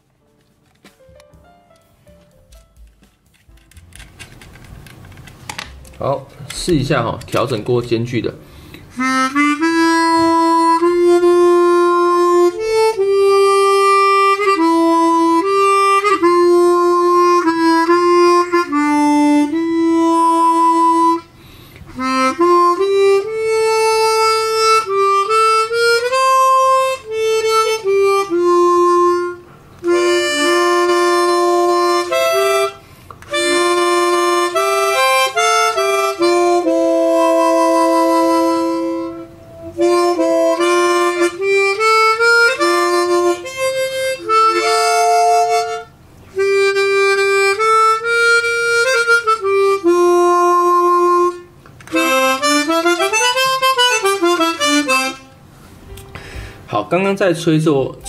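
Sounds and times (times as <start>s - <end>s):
harmonica playing: 6.8s - 56.9s.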